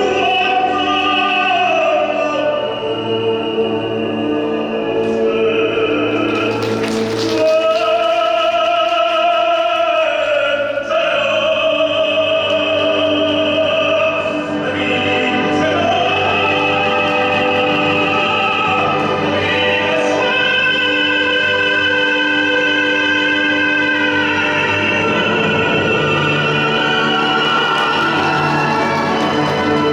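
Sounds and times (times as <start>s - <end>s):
classical orchestra: 0.0s - 29.9s
opera singer with vibrato: 0.0s - 29.9s.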